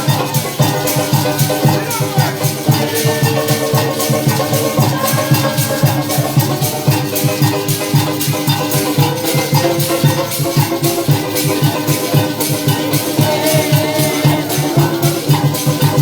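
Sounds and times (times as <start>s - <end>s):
maracas shaking: 0.0s - 16.0s
sustained instrument notes: 0.0s - 16.0s.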